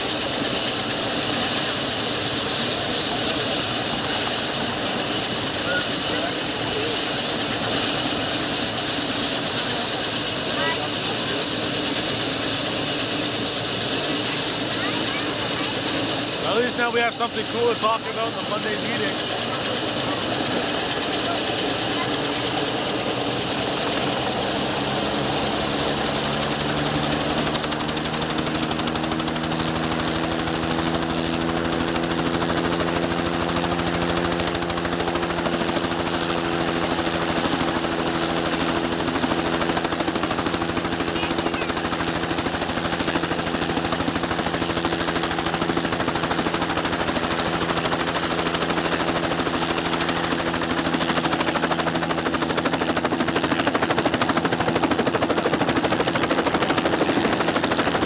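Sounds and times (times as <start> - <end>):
helicopter engine whine: 0.0 - 58.0
helicopter rotor chopping: 0.0 - 58.0.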